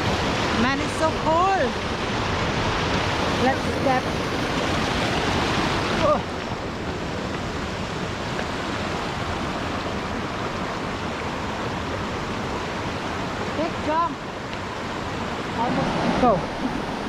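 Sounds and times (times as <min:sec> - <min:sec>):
waterfall rushing water: 0:00.0 - 0:17.0.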